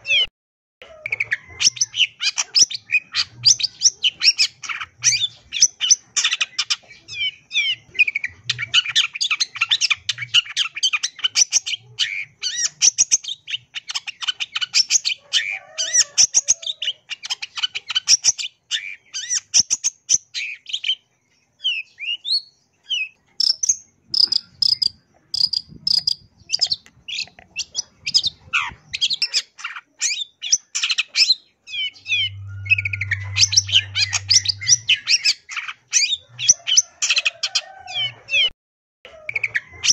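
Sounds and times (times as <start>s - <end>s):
shrike singing chattering song: 0.0s - 37.4s.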